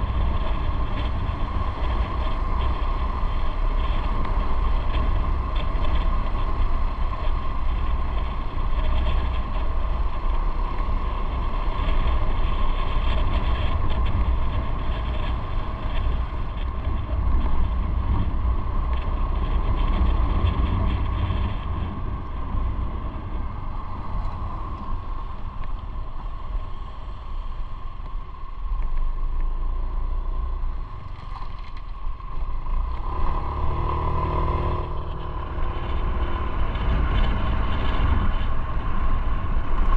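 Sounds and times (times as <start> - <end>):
motorcycle engine running: 0.0 - 27.1, 28.1 - 39.9
wind and road noise: 0.0 - 39.9.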